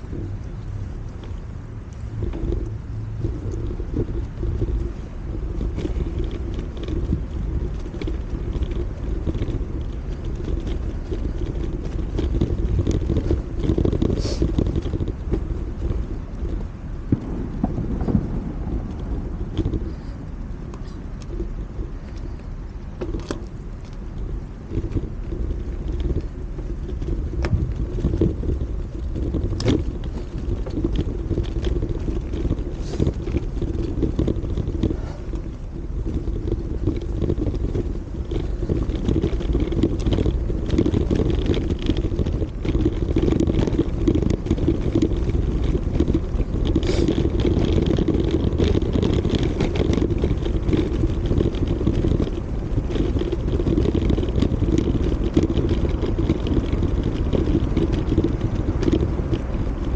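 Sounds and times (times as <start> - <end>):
bike clicks and rattles: 0.0 - 59.9
tyre noise on pavement: 0.0 - 59.9
wind noise on microphone: 0.0 - 59.9.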